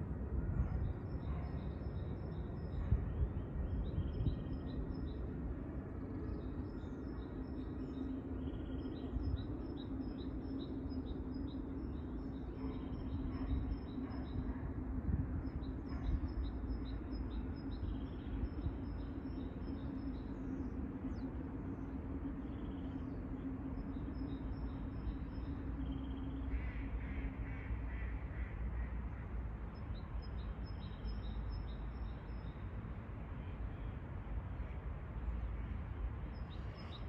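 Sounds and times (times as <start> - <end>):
faint constant hum: 0.0 - 37.0
low outdoor rumble: 0.0 - 37.0.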